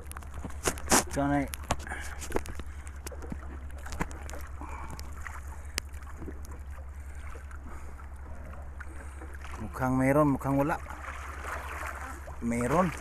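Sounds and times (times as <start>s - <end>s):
wind and choppy water: 0.0s - 13.0s.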